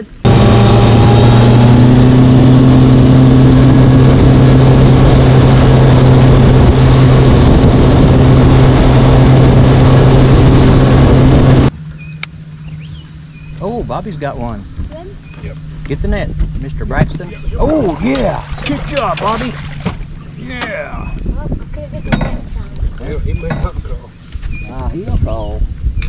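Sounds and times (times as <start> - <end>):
wind and water rushing: 0.0 - 11.9, 13.2 - 26.0
outboard motor running: 0.0 - 25.4.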